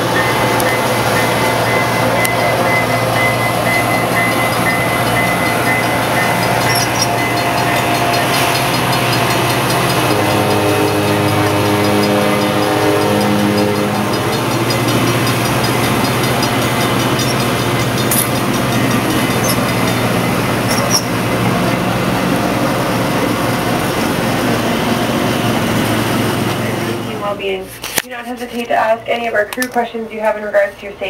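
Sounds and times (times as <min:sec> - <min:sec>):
diesel engine hum: 0:00.0 - 0:29.5
train wheels rumbling on rails: 0:00.0 - 0:31.0.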